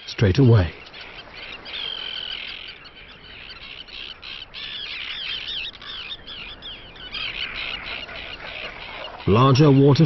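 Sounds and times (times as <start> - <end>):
terns screaming calls: 0.0 - 10.0.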